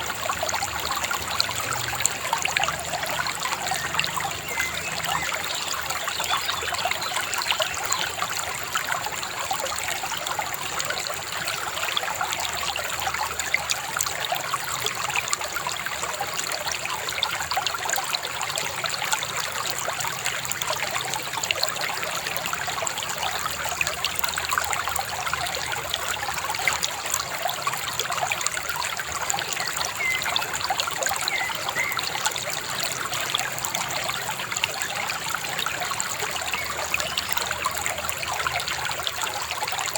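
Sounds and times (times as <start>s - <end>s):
shallow river babbling: 0.0s - 39.9s.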